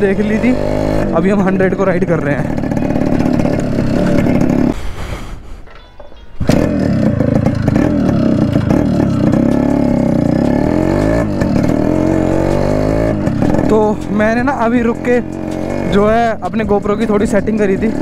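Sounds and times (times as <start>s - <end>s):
two-stroke motorcycle engine: 0.0s - 4.8s, 6.4s - 18.0s.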